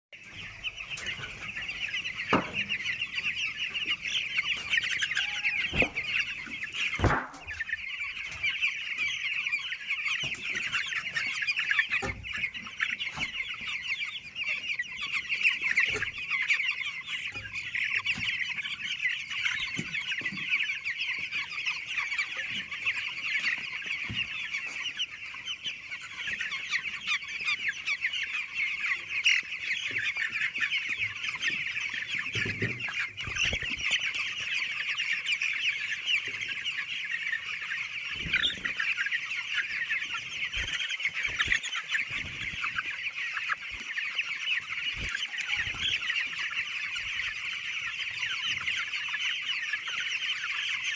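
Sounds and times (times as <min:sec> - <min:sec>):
chickens calling: 0:00.1 - 0:50.9.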